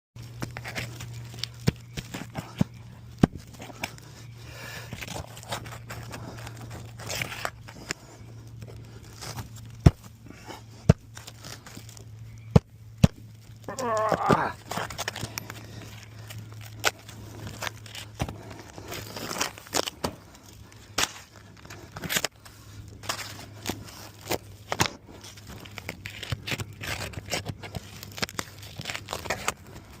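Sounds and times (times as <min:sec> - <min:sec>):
shingles scraping and crinkling: 0:00.2 - 0:30.0
steady low hum: 0:00.2 - 0:30.0.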